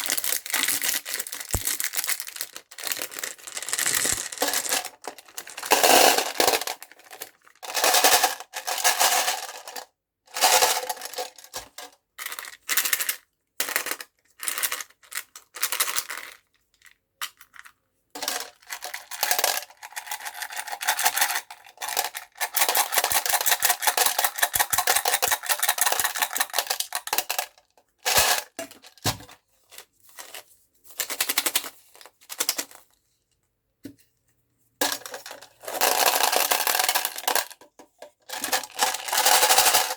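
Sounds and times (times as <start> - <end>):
candies rattling in a metal box: 0.0 - 16.5, 17.3 - 29.0, 34.8 - 39.9.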